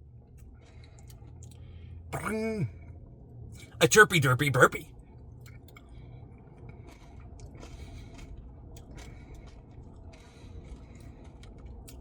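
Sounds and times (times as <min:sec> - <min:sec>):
soft chewing: 0:00.0 - 0:03.8, 0:05.0 - 0:12.0.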